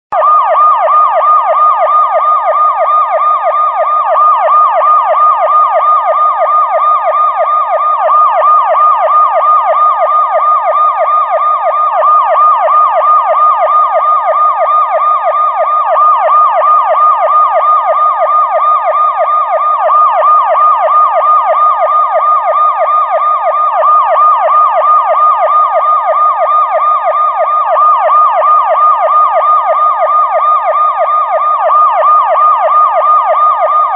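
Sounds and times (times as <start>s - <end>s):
police siren yelping: 0.1s - 33.9s.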